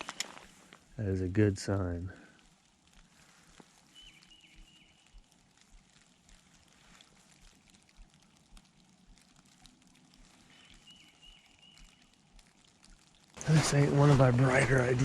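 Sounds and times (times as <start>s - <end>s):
light ticks: 0.0s - 1.0s, 1.7s - 13.4s.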